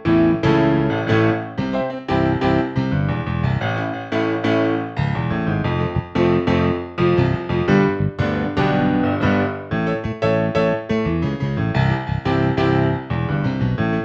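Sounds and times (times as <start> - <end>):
piano melody with chords: 0.0 - 14.0.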